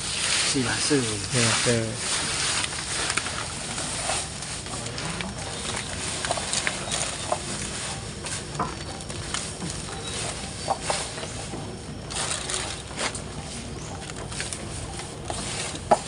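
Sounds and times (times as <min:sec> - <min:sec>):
forage rustling and crackling: 0:00.0 - 0:16.0
plastic sack rustling: 0:00.0 - 0:16.0.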